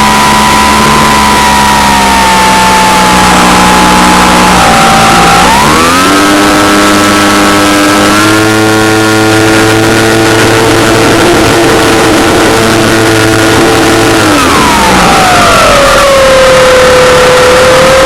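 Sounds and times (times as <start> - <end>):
model airplane engine running: 0.0 - 18.0.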